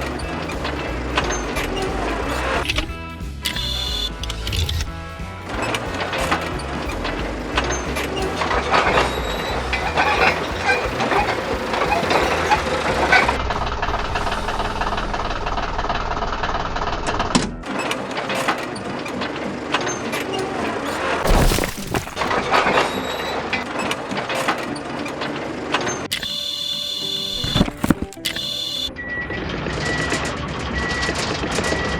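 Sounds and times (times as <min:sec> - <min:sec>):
machinery clanking and rattling: 0:00.0 - 0:26.3.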